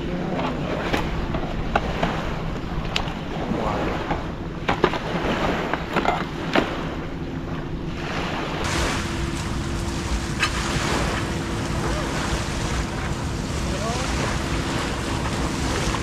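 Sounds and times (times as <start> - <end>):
motor running steadily: 0.0 - 16.0
water noise: 0.0 - 16.0.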